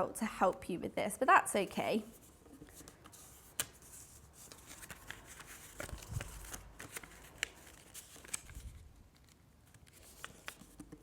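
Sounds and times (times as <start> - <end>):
paper rustling and crinkling: 2.2 - 11.0.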